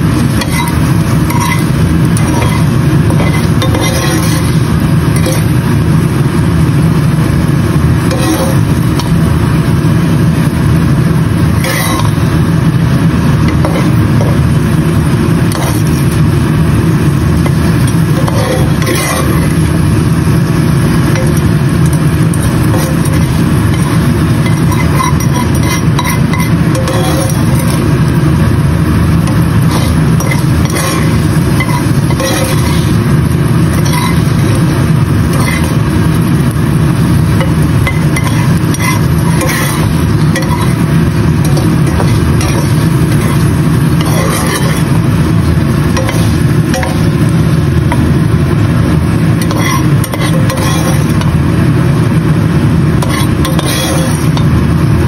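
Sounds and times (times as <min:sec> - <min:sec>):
spatula scraping pan: 0:00.0 - 0:06.2, 0:07.9 - 0:09.3, 0:11.2 - 0:12.6, 0:13.4 - 0:51.4, 0:52.9 - 0:54.6
food frying in oil: 0:00.0 - 0:55.0.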